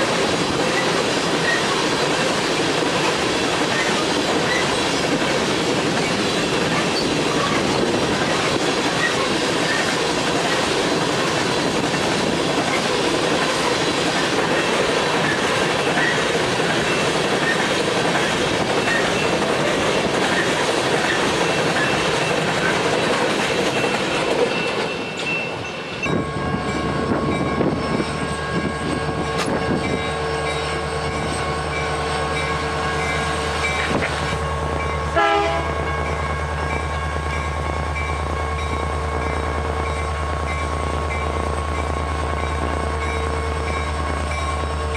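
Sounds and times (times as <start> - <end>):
freight train wheel and rail noise: 0.0 - 44.9.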